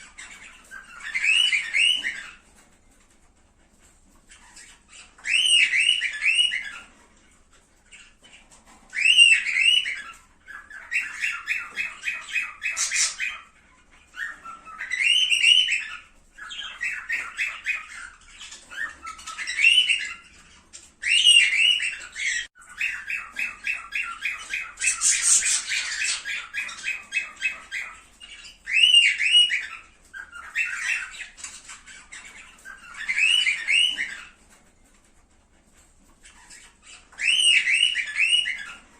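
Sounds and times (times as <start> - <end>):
cockatiels whistling and chattering: 0.0 - 38.9.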